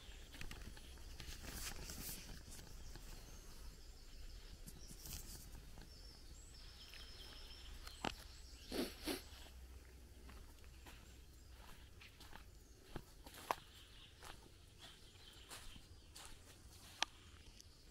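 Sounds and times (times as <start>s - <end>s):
faint bird calls: 0.0s - 17.5s
footsteps on dirt path: 0.0s - 17.8s.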